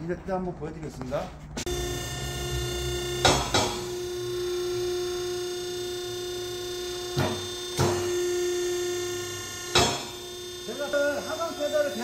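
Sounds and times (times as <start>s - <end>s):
hydraulic motor and pump humming: 1.6s - 12.0s.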